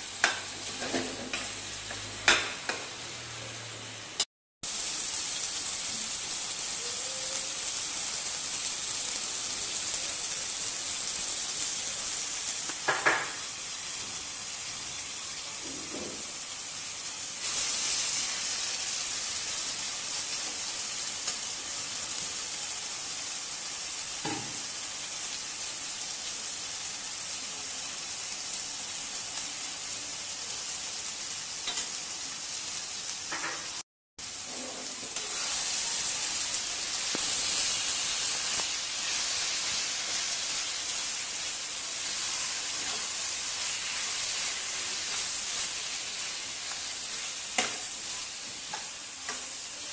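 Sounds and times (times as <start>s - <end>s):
food sizzling in a wok: 0.0s - 49.9s.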